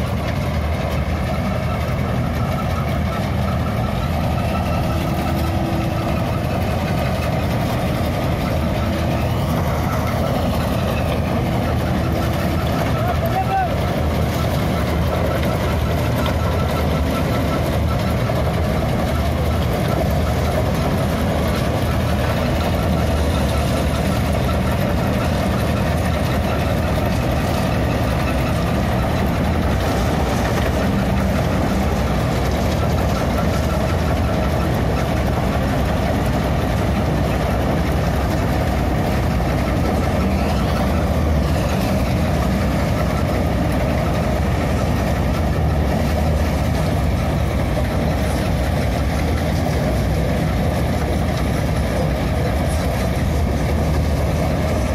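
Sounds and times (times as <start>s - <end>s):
harvester machinery droning: 0.0s - 54.9s.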